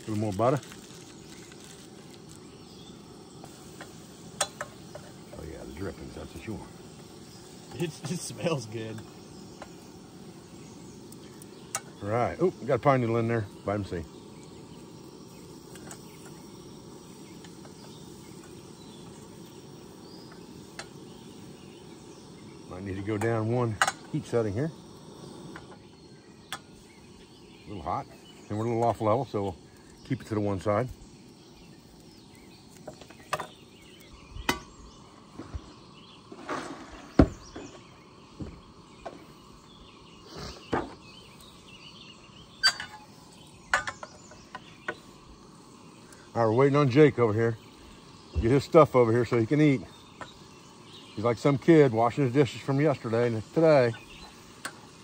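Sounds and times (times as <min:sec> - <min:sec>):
birds chirping: 0:00.0 - 0:55.0
cakes sizzling in butter: 0:00.0 - 0:55.0.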